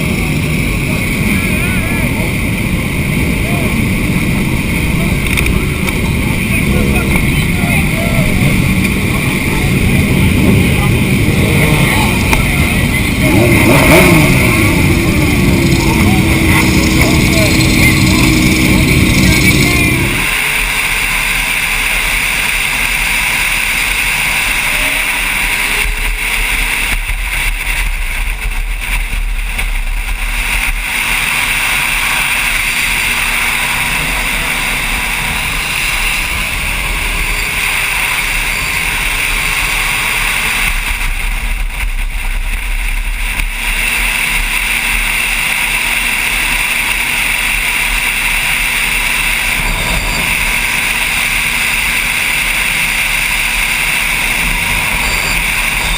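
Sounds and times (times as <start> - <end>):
motorcycle engine: 0.0 - 55.9
wind rush on microphone: 0.0 - 55.9.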